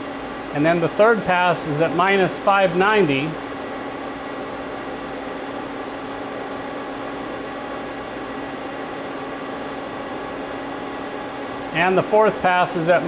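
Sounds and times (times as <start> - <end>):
lathe humming at idle: 0.0 - 13.0.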